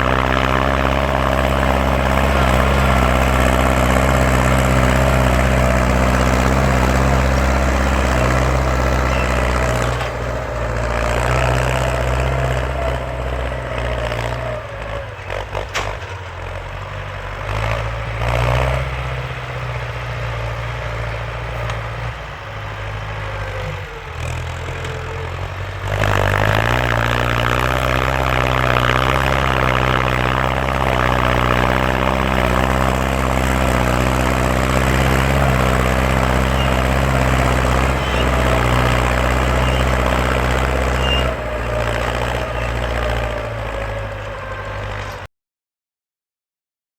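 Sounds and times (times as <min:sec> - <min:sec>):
tractor engine droning: 0:00.0 - 0:45.3.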